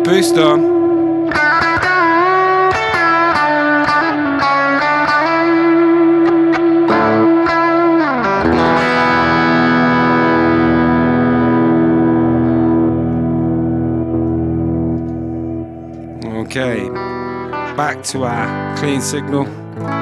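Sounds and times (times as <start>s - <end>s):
electric guitar chord ringing: 0.0s - 20.0s.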